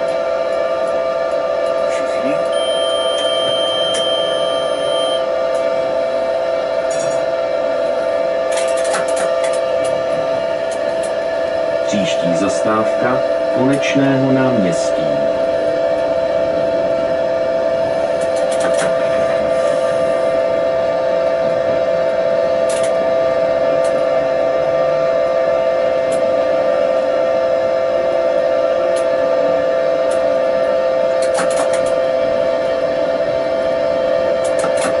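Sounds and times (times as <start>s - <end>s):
tram electrical whine: 0.0s - 35.0s.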